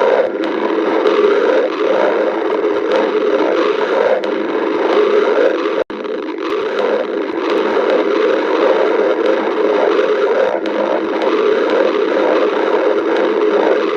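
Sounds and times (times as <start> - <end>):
faint clicks: 0.0 - 13.9
stomach growling: 0.0 - 13.9.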